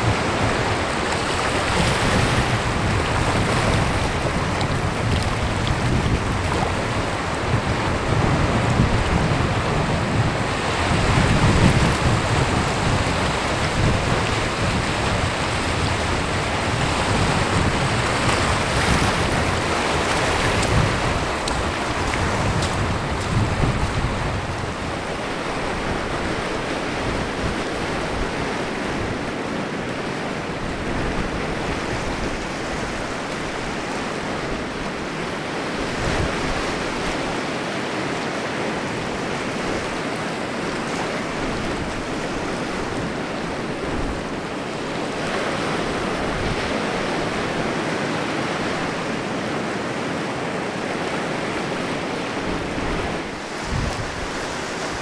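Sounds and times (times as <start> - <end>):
wind buffeting microphone: 0.0 - 37.4, 38.6 - 55.0
sea waves washing on shore: 0.0 - 55.0.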